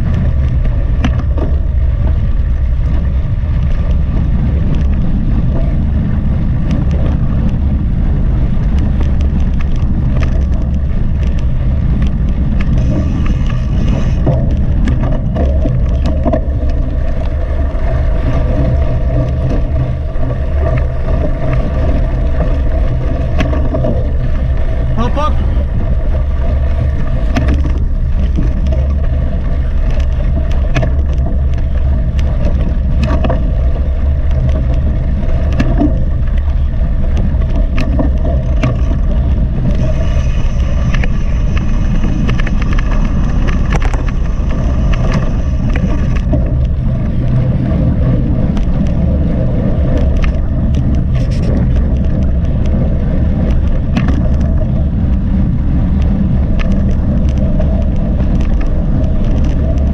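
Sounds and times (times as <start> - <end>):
bike clicking and rattling: 0.0 - 25.0, 25.6 - 59.9
wind and tyres rumbling: 0.0 - 59.9.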